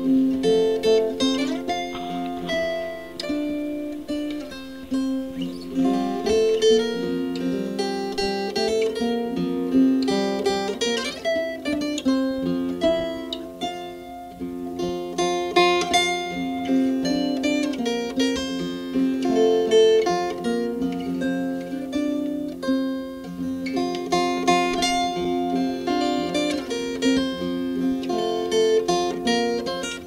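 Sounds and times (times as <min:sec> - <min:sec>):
plucked string music: 0:00.0 - 0:30.0.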